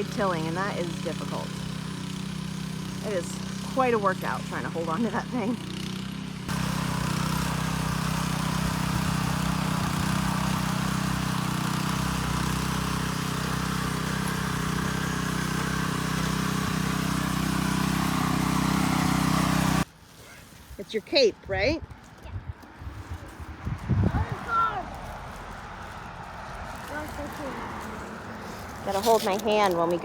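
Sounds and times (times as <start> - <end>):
garden tiller engine running: 0.0 - 19.9, 22.6 - 30.0.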